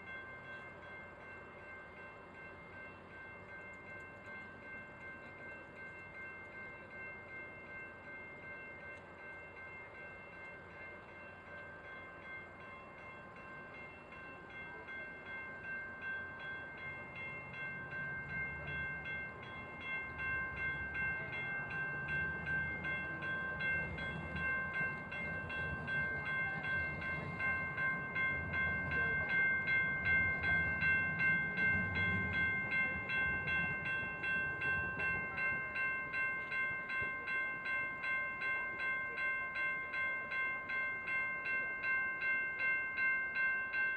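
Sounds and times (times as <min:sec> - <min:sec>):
crossing warning bell ringing: 0:00.0 - 0:43.9.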